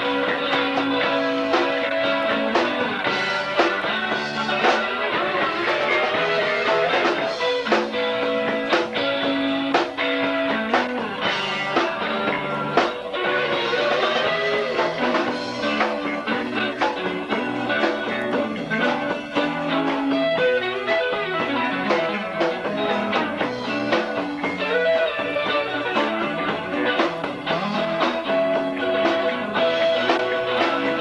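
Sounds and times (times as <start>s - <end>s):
bass guitar: 0.0s - 31.0s
drums: 0.0s - 31.0s
guitar: 0.0s - 31.0s.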